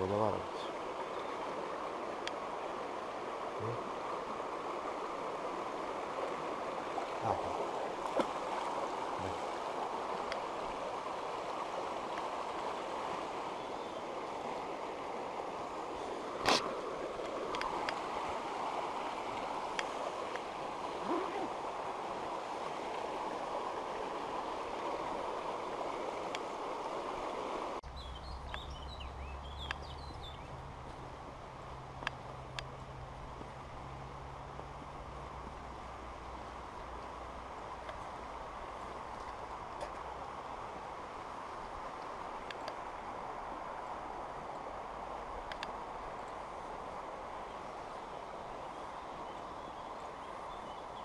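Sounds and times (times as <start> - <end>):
stream running over stones: 0.0 - 51.0.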